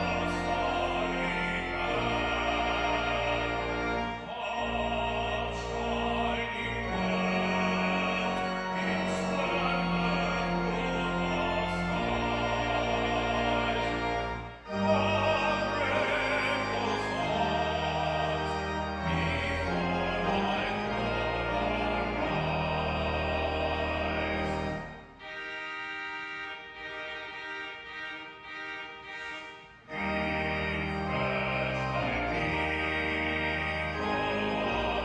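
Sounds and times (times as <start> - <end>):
pipe organ chords: 0.0 - 35.0.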